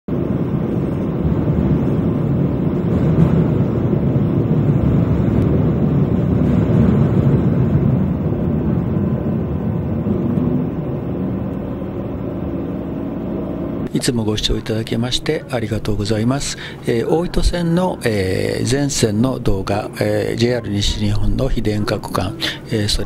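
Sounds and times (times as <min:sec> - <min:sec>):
diesel railcar engine rumble: 0:00.1 - 0:23.0
train wheels on rails: 0:00.1 - 0:23.0.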